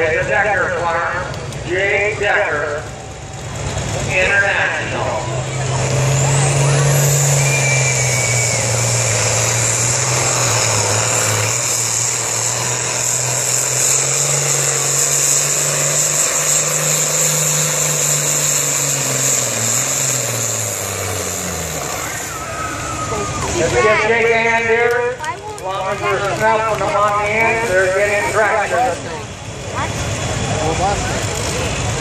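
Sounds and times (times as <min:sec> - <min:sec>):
tractor engine running under load: 0:00.0 - 0:32.0.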